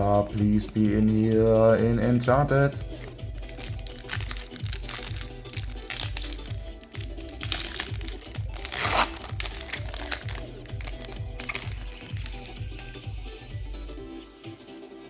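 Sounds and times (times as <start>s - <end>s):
foil pack crinkling: 0.0s - 13.0s
background music with steady beat: 0.0s - 15.0s.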